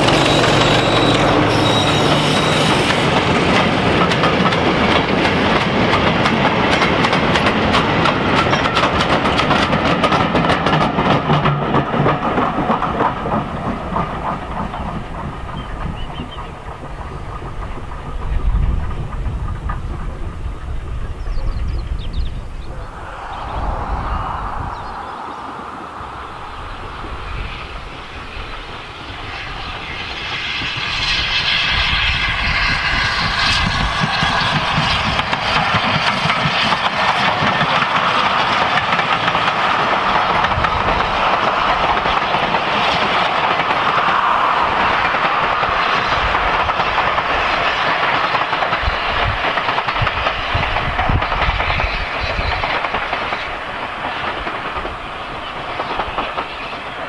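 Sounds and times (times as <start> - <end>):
steam locomotive passing: 0.0 - 57.0.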